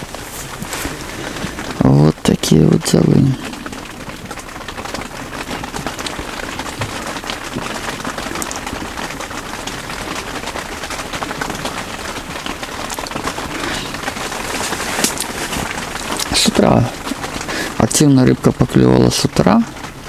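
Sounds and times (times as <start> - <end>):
rain pattering on tent fabric: 0.0 - 20.0.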